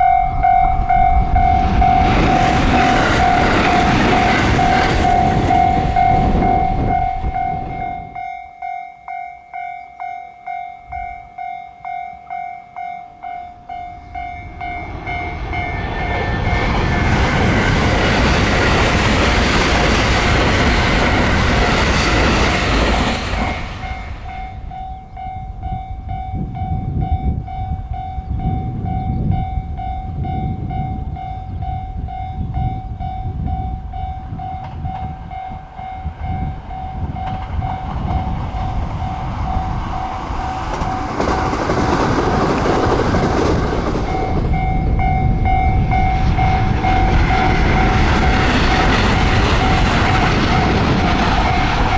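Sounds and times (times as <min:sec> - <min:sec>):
train rushing by: 0:00.0 - 0:08.7, 0:10.5 - 0:51.9
level-crossing alarm bell ringing: 0:00.0 - 0:22.5, 0:23.3 - 0:41.2, 0:44.0 - 0:51.9
low rumble of slow train: 0:00.0 - 0:51.9.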